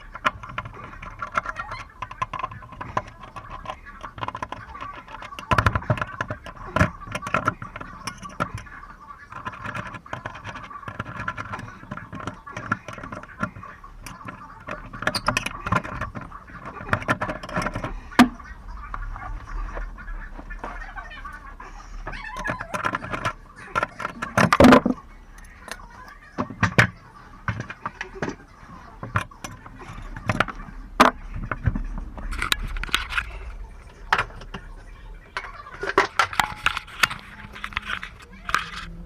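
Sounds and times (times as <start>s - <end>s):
tools and parts clattering: 0.0s - 19.8s, 20.5s - 39.0s
indistinct voices: 0.0s - 39.0s.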